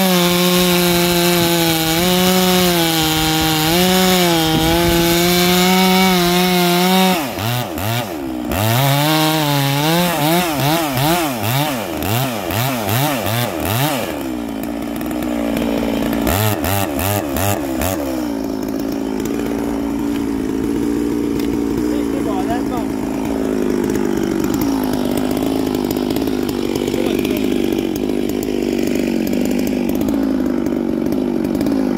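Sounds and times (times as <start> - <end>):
chainsaw cutting log: 0.0 - 31.9.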